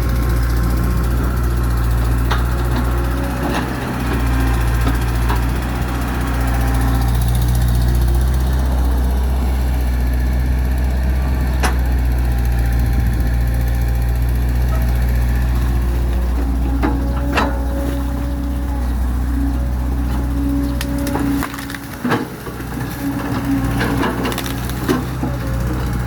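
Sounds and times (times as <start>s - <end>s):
excavator diesel engine: 0.0s - 26.0s.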